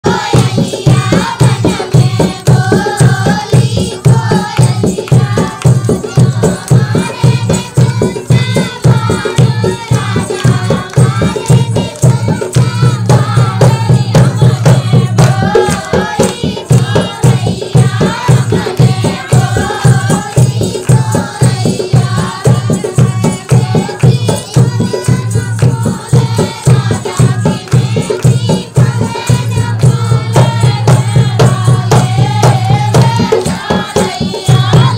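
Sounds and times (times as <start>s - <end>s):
fast drum beat: 0.0s - 34.9s
folk song singing: 0.0s - 34.9s.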